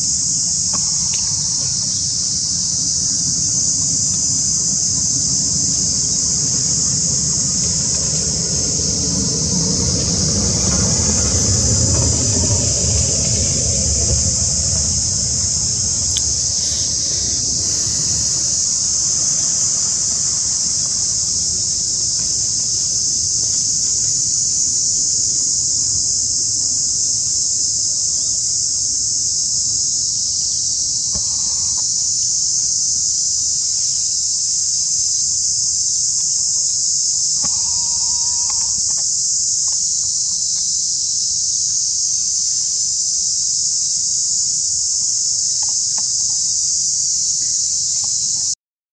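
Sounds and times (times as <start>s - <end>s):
high-pitched insect drone: 0.0s - 48.6s.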